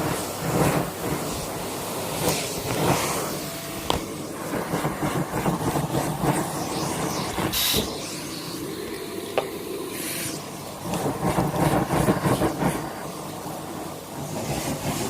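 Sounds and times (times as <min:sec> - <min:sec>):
sharp rush of air: 0:00.0 - 0:15.0
vacuum cleaner running: 0:00.0 - 0:15.0.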